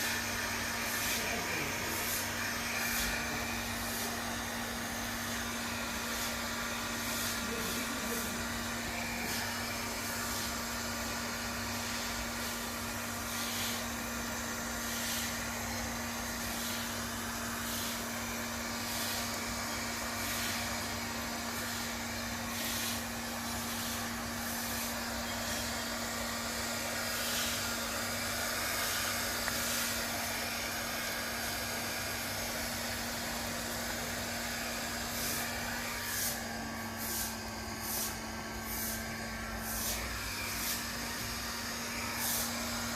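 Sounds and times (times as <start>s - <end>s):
hair dryer running: 0.0s - 42.9s.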